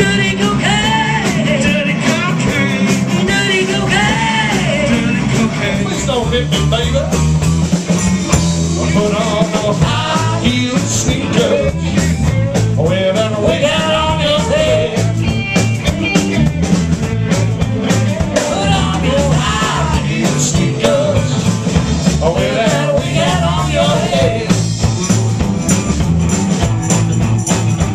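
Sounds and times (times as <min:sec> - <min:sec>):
bass guitar: 0:00.0 - 0:27.9
drum kit: 0:00.0 - 0:27.9
electric guitars: 0:00.0 - 0:27.9.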